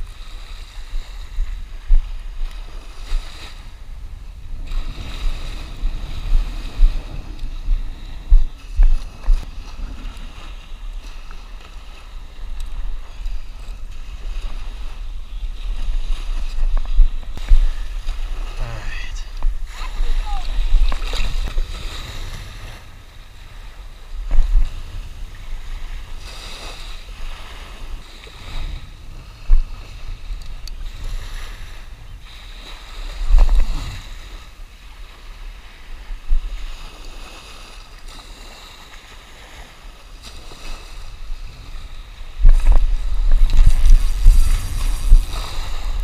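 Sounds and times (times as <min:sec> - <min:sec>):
small surf waves washing: 0:00.0 - 0:46.0
wind buffeting microphone: 0:00.0 - 0:46.0.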